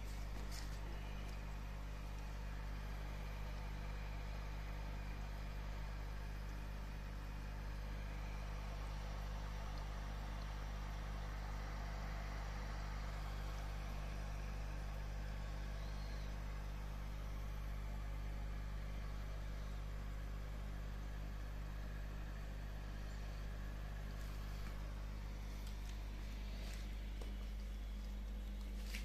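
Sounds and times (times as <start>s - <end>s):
aquarium equipment humming: 0.0s - 29.0s.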